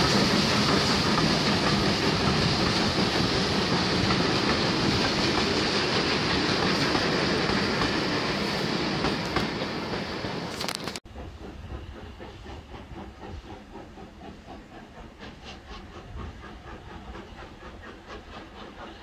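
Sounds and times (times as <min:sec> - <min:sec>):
train wheels clattering: 0:00.0 - 0:19.0.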